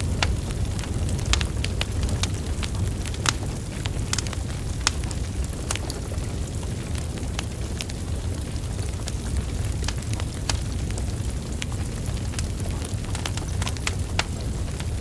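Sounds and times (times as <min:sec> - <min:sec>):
crackles and pops from logs: 0:00.0 - 0:15.0
low rumble of flames: 0:00.0 - 0:15.0.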